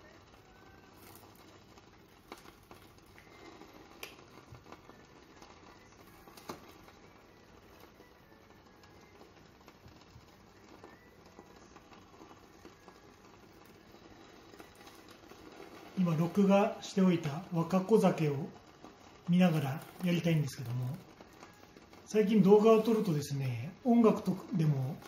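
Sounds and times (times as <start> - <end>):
food crackling under a lid: 0.0 - 25.0.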